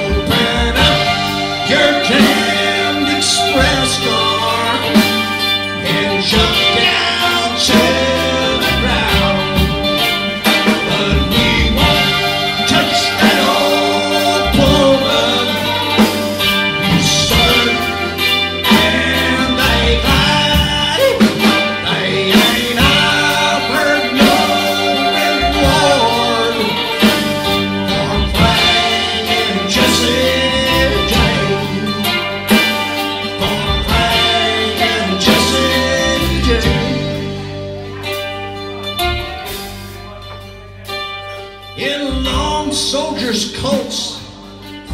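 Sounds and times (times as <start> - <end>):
live rock band playing: 0.0 - 44.9
sustained guitar notes: 0.0 - 44.9.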